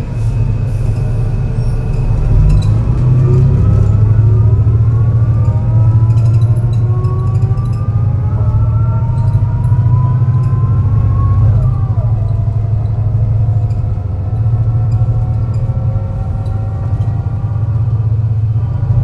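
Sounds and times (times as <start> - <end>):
bus engine rumbling under load: 0.0 - 19.0
gearbox whine: 0.0 - 19.0.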